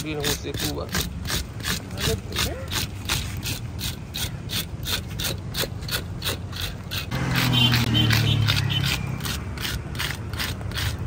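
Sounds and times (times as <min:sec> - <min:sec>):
fish scaler scraping scales: 0:00.0 - 0:11.0.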